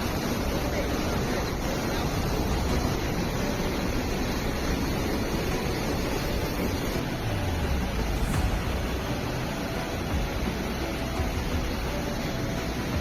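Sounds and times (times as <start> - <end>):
churning water rushing: 0.0 - 13.0.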